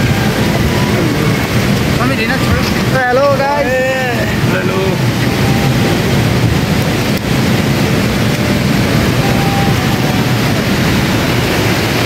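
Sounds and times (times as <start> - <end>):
water rushing through a dam: 0.0 - 12.0.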